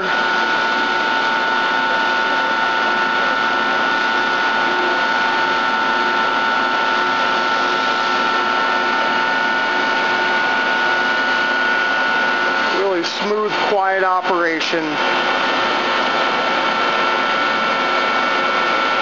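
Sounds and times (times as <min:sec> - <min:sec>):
boring mill hissing: 0:00.0 - 0:19.0
high-pitched machine whine: 0:00.0 - 0:19.0.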